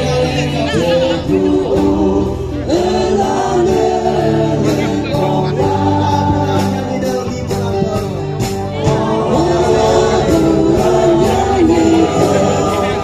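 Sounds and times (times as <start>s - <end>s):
choir singing gospel: 0.0s - 13.0s
live band playing: 0.0s - 13.0s.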